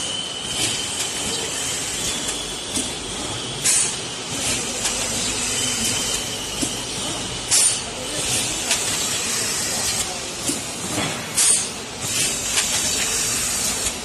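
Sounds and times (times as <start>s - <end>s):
machine running noise: 0.0s - 14.0s.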